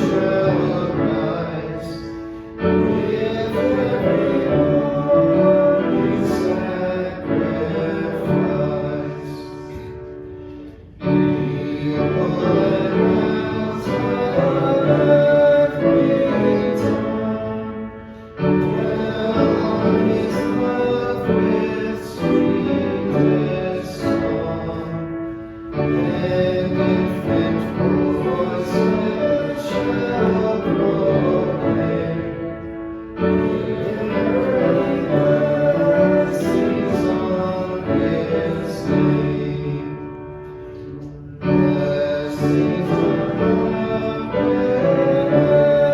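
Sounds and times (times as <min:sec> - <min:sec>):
hymn with instrumental accompaniment: 0:00.0 - 0:45.9.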